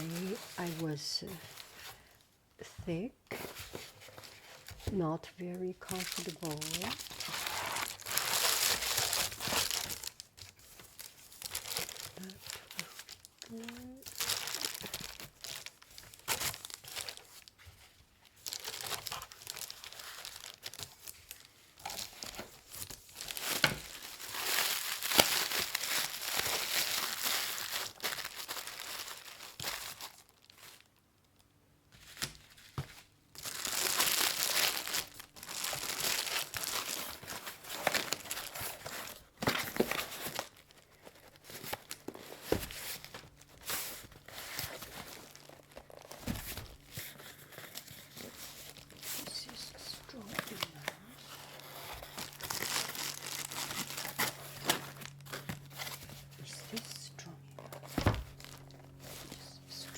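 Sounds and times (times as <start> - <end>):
packing material crinkling: 0.0 - 2.2, 3.3 - 31.4, 32.0 - 59.9.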